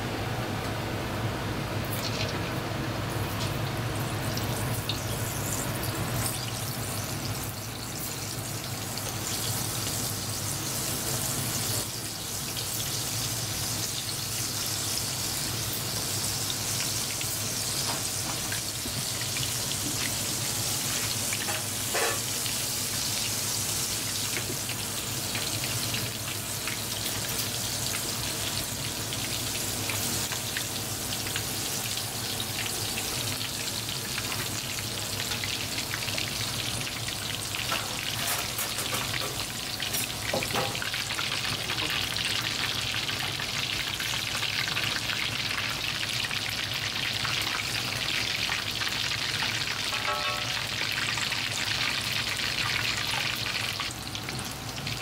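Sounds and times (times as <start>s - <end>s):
battered food deep-frying in oil: 0.0s - 55.0s.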